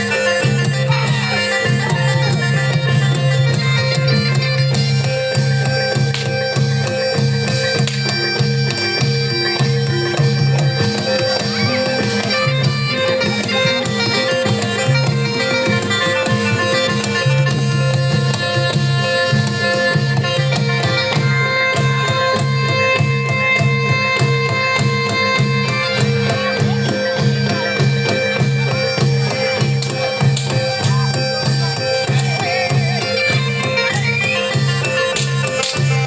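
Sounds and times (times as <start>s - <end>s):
hand drum beat: 0.0s - 36.0s
sustained melodic tones: 0.0s - 36.0s.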